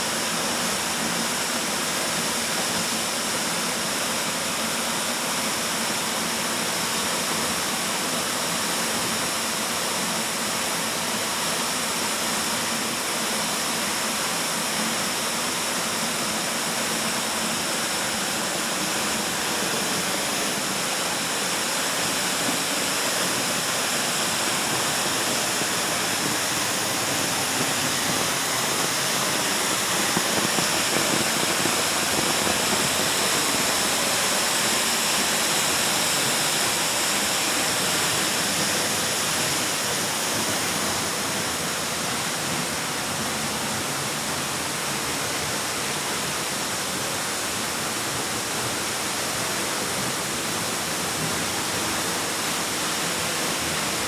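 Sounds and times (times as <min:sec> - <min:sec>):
waterfall rushing in cave: 0:00.0 - 0:54.0.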